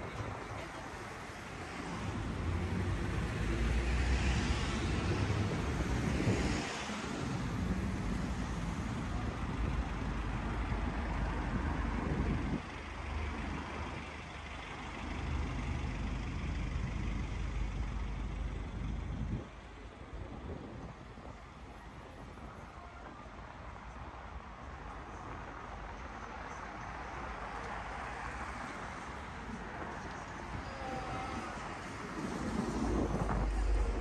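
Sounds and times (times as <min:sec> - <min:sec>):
traffic rumbling: 0:00.0 - 0:34.0.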